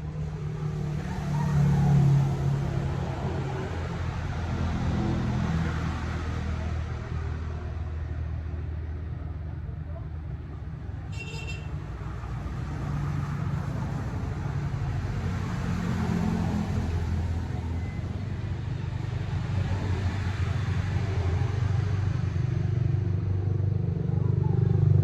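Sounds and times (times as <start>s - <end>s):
road noise: 0.0s - 25.0s.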